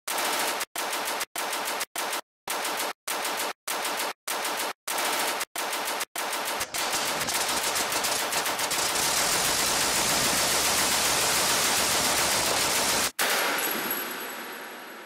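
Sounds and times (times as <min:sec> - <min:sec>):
machine guns firing: 0:00.1 - 0:13.7.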